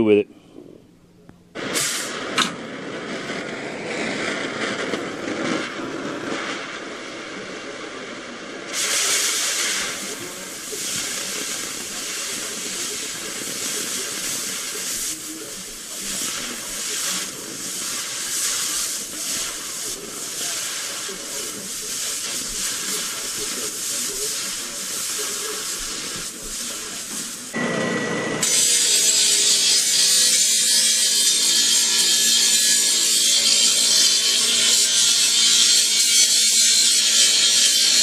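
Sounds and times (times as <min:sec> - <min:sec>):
cutting torch hissing: 0:01.6 - 0:38.0.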